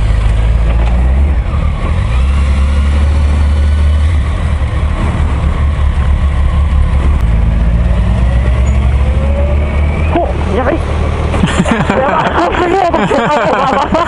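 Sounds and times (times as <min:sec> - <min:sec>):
motorcycle engine drone: 0:00.0 - 0:14.0.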